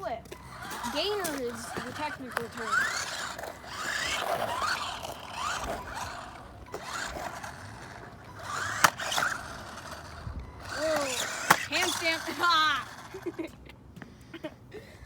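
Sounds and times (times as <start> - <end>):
electric motor whining: 0.2 - 13.4.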